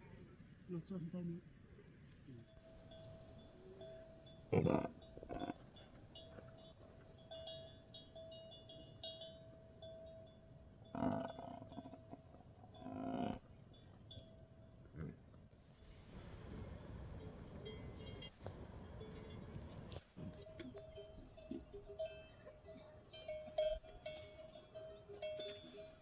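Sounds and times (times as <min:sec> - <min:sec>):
faint steady tone: 0:00.0 - 0:26.0
livestock bells tinkling: 0:02.4 - 0:15.2, 0:15.8 - 0:26.0.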